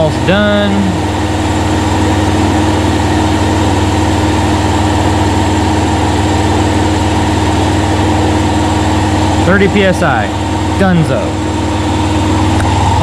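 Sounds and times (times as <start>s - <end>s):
steady engine-like hum: 0.0s - 13.0s.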